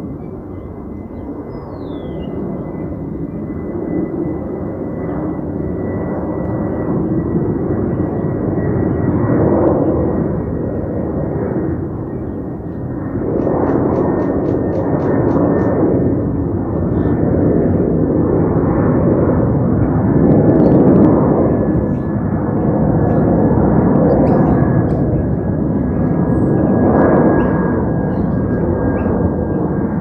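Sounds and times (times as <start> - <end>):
airliner engines rushing: 0.0 - 30.0
high jet whine: 0.0 - 30.0.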